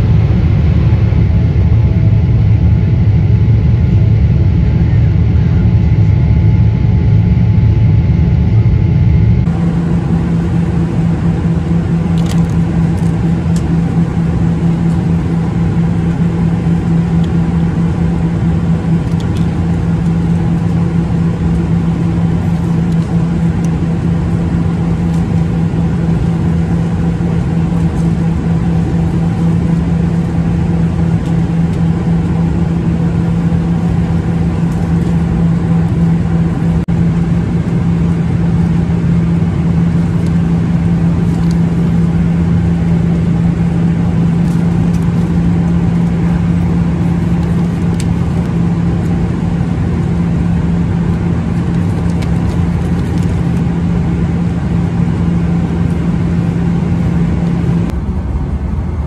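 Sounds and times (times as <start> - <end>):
cabin drone: 0.0 - 59.0
jet engine rumble in cabin: 0.0 - 59.0.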